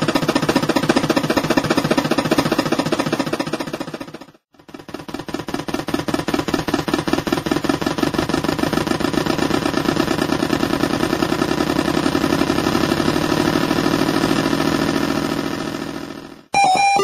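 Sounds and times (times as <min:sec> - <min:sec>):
electronic boat engine chugging: 0:00.0 - 0:17.0.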